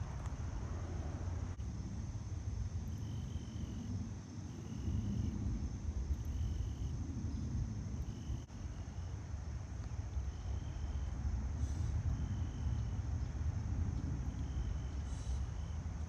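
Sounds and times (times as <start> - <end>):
faint high insect-like drone: 0.0 - 16.0.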